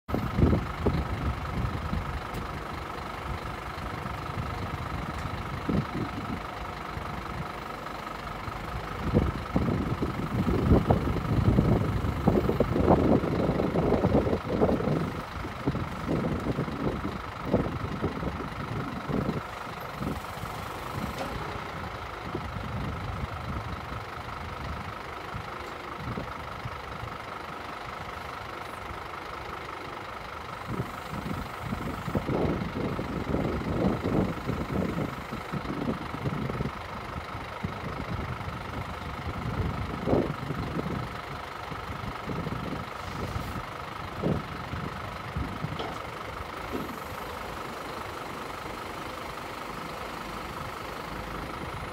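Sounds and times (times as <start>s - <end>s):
diesel engine idling: 0.1s - 51.9s
low rumbles: 0.1s - 51.9s.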